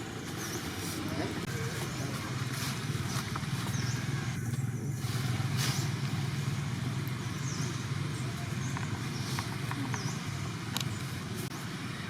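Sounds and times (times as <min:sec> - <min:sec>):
constant hiss: 0:00.0 - 0:12.0.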